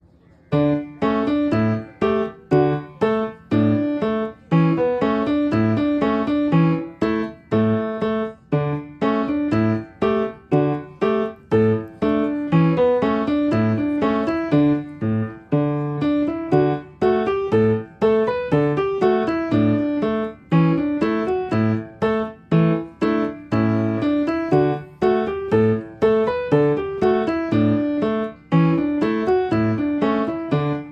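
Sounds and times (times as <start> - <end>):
gentle piano music: 0.0 - 30.9.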